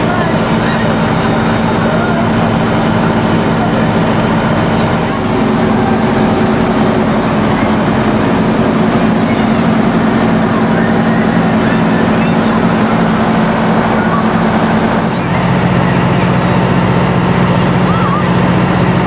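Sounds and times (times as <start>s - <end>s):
children's voices: 0.0s - 16.7s, 17.6s - 18.6s
fire truck engine running: 0.0s - 19.0s.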